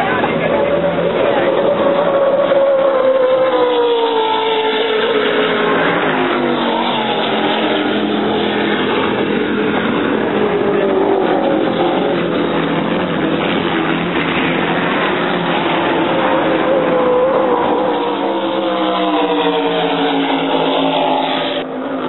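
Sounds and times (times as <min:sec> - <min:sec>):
racing powerboat engines: 0:00.0 - 0:22.0
wind and water rushing: 0:00.0 - 0:22.0.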